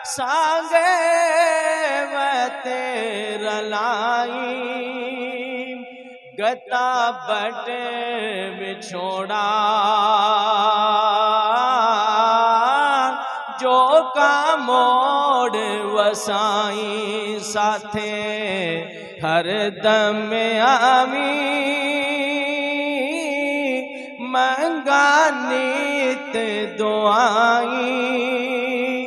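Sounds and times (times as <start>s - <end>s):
man singing into a microphone: 0.0s - 29.0s.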